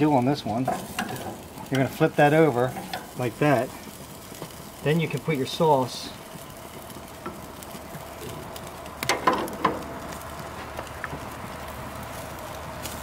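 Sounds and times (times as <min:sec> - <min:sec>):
ribs sizzling on grill: 0:00.0 - 0:13.0.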